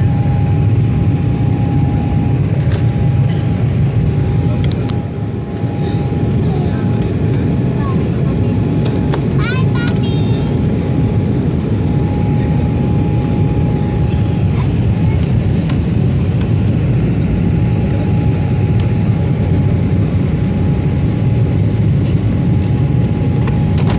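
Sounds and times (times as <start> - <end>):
airliner cabin engine rumble: 0.0 - 23.9.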